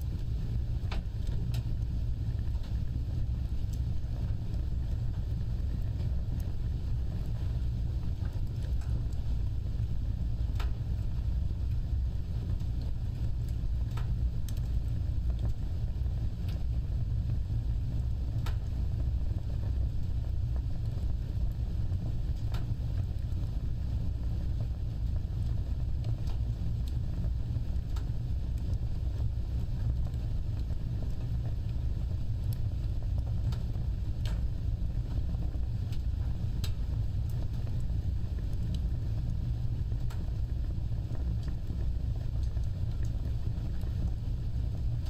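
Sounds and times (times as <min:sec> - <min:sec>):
fire crackling and popping: 0:00.0 - 0:45.0
flames rumbling: 0:00.0 - 0:45.0.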